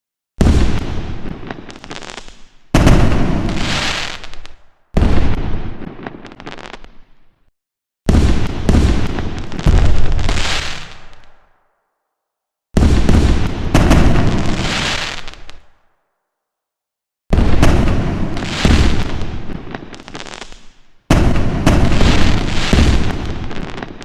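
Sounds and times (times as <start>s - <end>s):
fireworks crackling: 0.4s - 7.0s, 8.2s - 11.4s, 12.8s - 15.7s, 17.4s - 24.0s
fireworks bangs: 0.4s - 7.2s, 8.1s - 11.5s, 12.8s - 15.8s, 17.3s - 24.0s.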